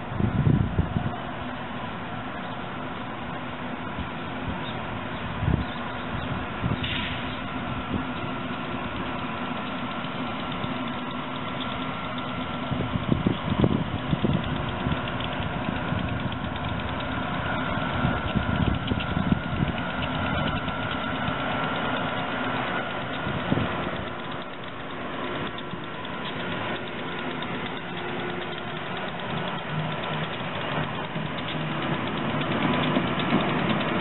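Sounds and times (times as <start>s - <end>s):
electric train rumble: 0.0s - 34.0s.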